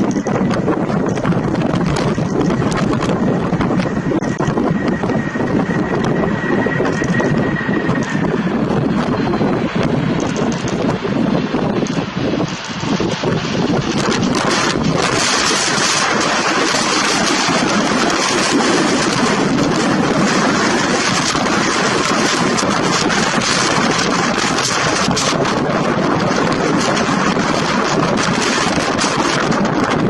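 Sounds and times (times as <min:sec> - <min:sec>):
jet engines roaring: 0:00.0 - 0:30.0
wind buffeting microphone: 0:00.0 - 0:30.0.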